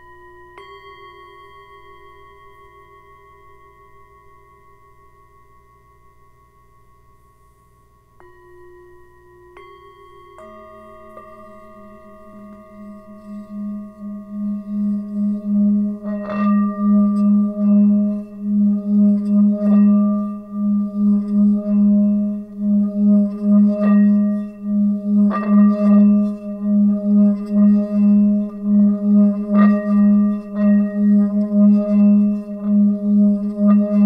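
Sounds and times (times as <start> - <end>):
singing bowl humming: 0.0 - 34.0.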